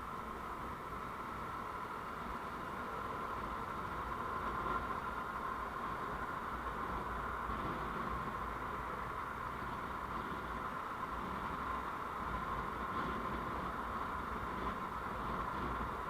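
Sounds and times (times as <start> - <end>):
vehicle road noise: 0.0 - 16.0.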